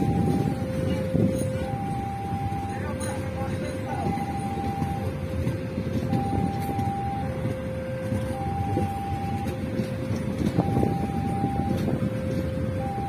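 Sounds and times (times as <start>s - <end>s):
train coaches rumbling on rails: 0.0s - 13.0s
two-tone crossing alarm: 0.0s - 13.0s.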